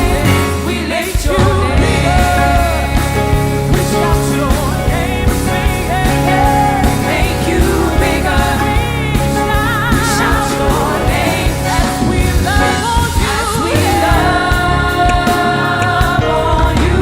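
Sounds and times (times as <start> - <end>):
person singing: 0.0 - 17.0
worship band playing: 0.0 - 17.0.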